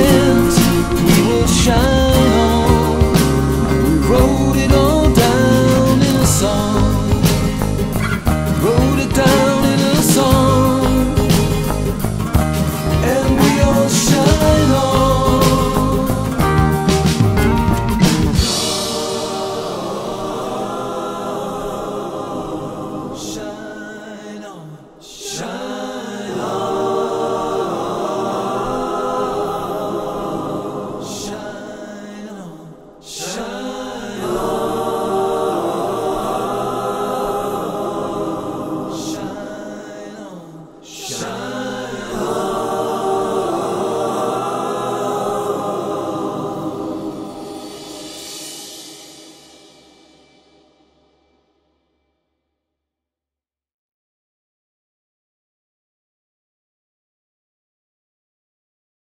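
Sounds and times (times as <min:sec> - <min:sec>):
choir singing a chant: 0:00.0 - 0:50.6.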